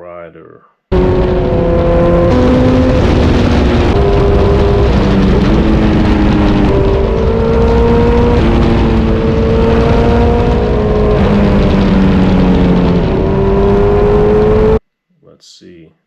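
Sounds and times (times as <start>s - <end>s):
motorcycle engine at road speed: 0.9s - 14.8s.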